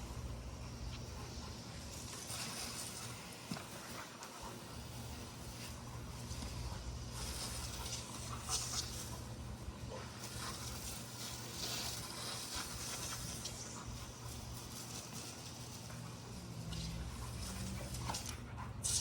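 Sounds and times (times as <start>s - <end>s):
garden hose spraying water: 0.0s - 19.0s.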